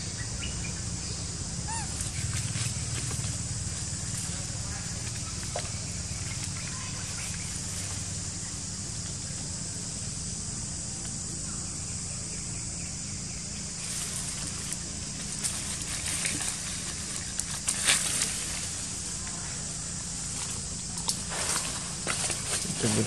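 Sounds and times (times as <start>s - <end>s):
low hum: 0.0s - 23.0s
leaves and twigs rustling: 1.7s - 11.2s, 13.2s - 23.0s.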